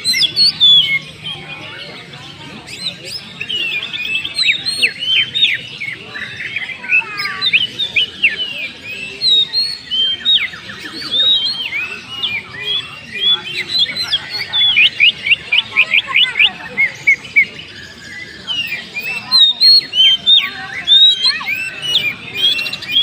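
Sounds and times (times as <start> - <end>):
bird singing chirps and whistles: 0.0 - 23.0.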